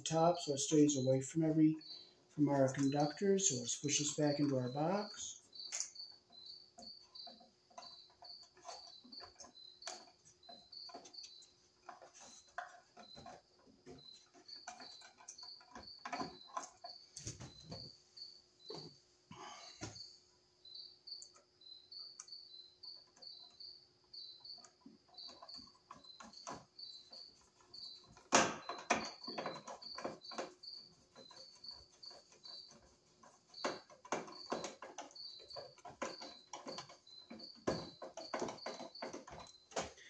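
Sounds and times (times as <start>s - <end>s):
cricket chirping: 0.0s - 40.0s.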